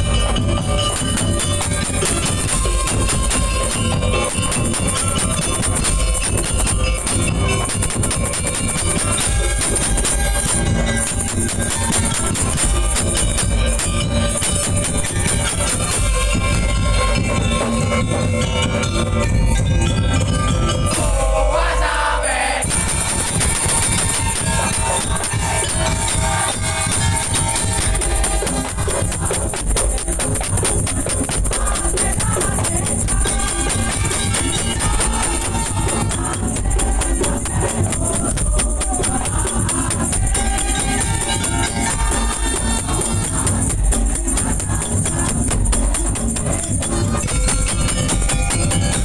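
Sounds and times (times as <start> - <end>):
jingling rattling percussion: 0.0 - 49.0
percussion ensemble drums: 0.0 - 49.0.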